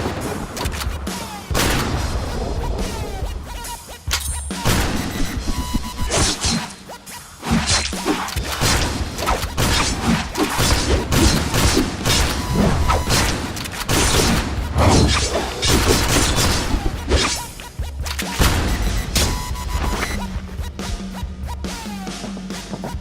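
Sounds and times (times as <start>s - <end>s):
action music: 0.0s - 23.0s.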